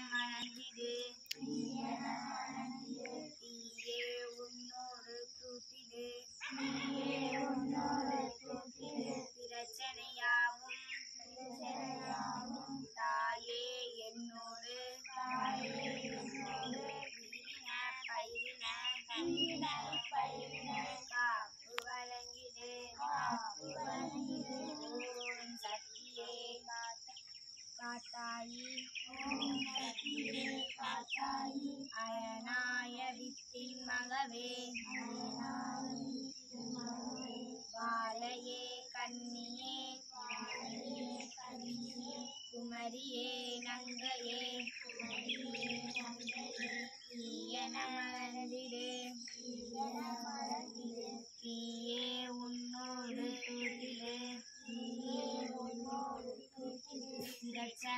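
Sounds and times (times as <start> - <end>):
voices chanting: 0.0 - 57.9.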